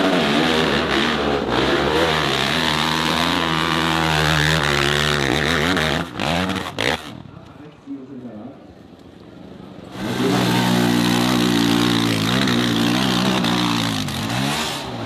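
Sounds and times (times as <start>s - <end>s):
motorcycle engine revving: 0.0s - 7.4s, 9.9s - 15.0s.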